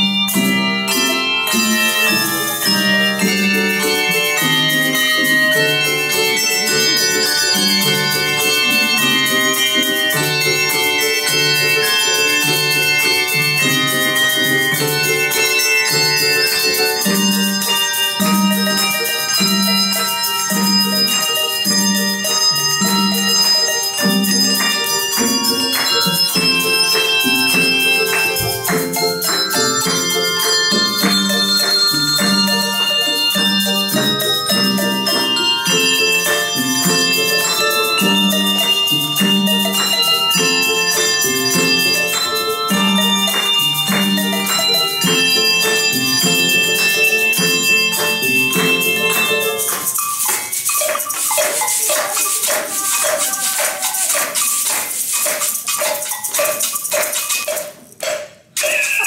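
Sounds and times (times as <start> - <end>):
low bass bells: 0.0 - 49.7
bells struck by mallets: 0.0 - 57.8, 58.6 - 59.0
handbells ringing: 0.0 - 58.0, 58.6 - 59.0
shakers rattling: 1.0 - 59.0.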